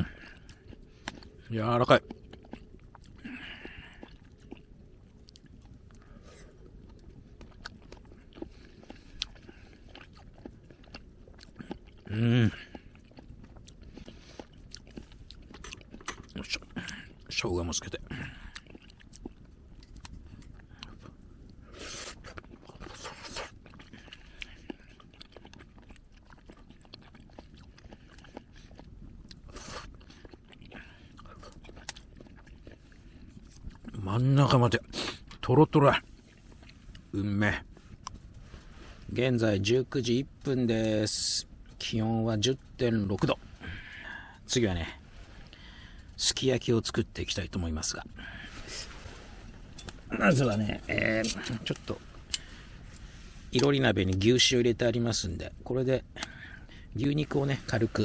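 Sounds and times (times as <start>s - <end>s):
person chewing soft food: 0.0s - 58.0s.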